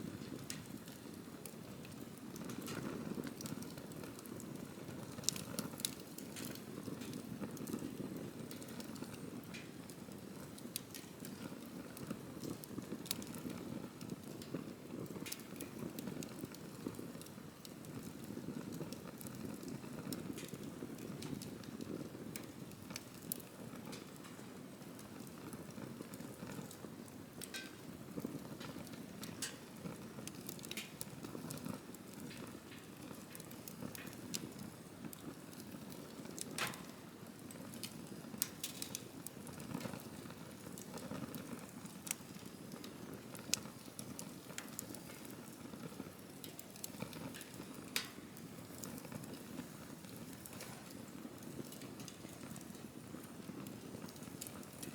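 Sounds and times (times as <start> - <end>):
campfire crackling and popping: 0.0 - 54.9
low rush of flames: 0.0 - 54.9.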